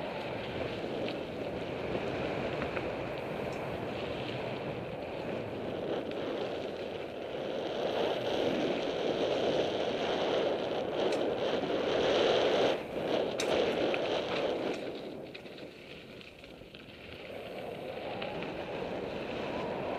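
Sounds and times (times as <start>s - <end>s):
bike tyres rolling on dirt: 0.0s - 19.9s
wind buffeting microphone: 0.0s - 19.9s.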